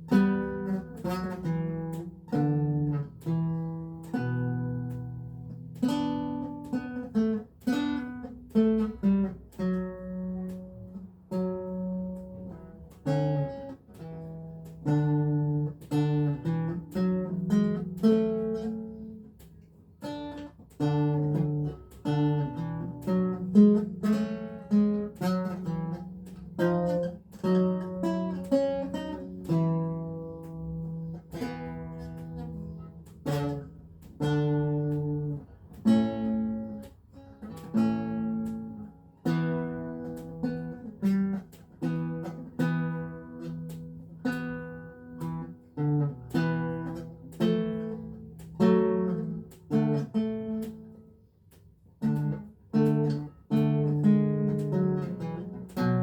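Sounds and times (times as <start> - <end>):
lute playing: 0.0 - 56.0.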